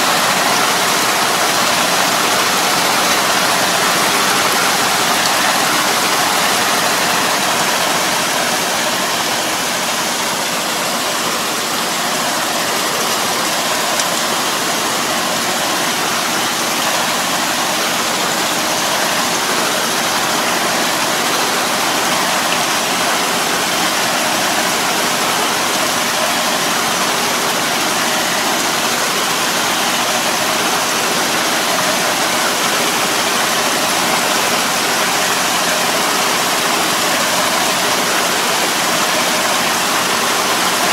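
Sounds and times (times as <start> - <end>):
rushing splash of muddy water: 0.0 - 40.9
tractor engine under load: 0.0 - 40.9.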